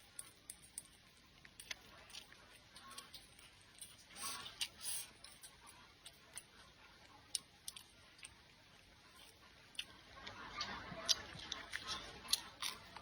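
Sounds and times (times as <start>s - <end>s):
chewing and utensil clicks: 0.0s - 13.0s.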